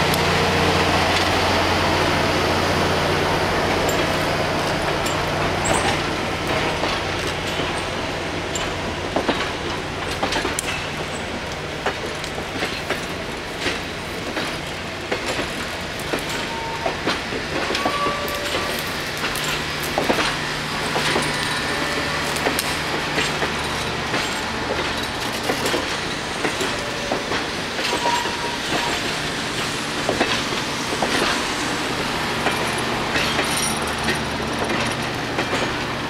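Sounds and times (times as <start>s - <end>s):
train coaches rumbling past: 0.0s - 36.0s
wheels clicking over rail joints: 3.7s - 31.5s, 32.4s - 36.0s.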